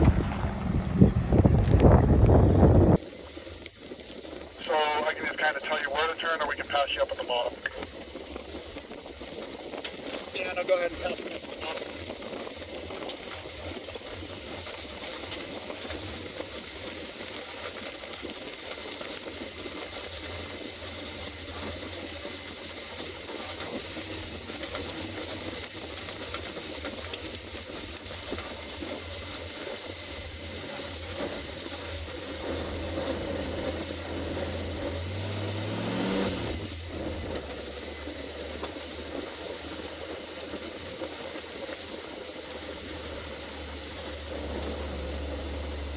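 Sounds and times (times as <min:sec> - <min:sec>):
car engine running: 0:00.0 - 0:45.9
road noise: 0:00.0 - 0:45.9.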